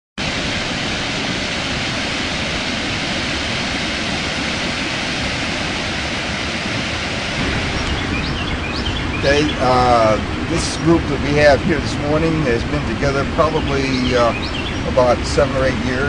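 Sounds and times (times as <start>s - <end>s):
water rushing over a dam: 0.2s - 16.0s.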